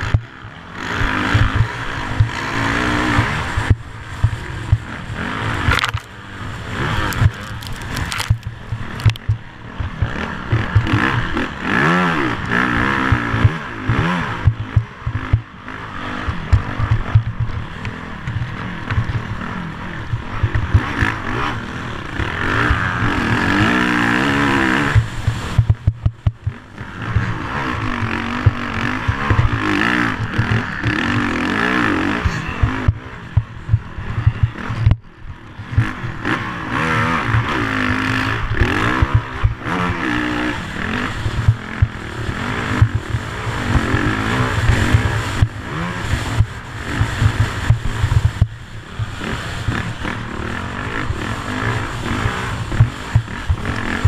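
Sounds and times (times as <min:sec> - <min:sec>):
vehicle engine revving: 0:00.0 - 0:54.0
wind rumbling on microphone: 0:00.0 - 0:54.0.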